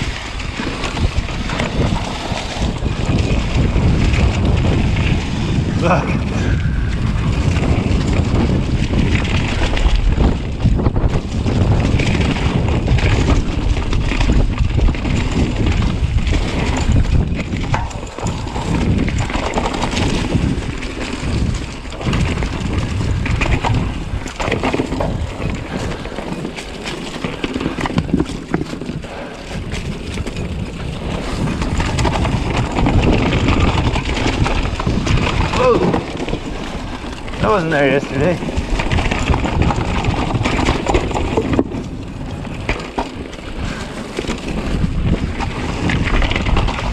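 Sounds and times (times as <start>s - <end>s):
bike rattling over bumps: 0.0s - 46.9s
tyres rolling over dirt and leaves: 0.0s - 46.9s
wind on microphone: 0.0s - 46.9s.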